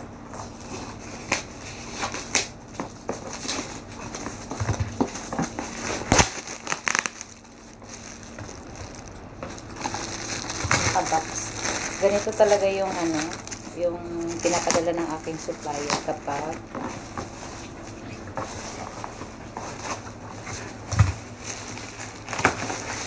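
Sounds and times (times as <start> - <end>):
packing tape crackling: 0.3 - 23.0
plastic wrapping crinkling: 0.3 - 23.0.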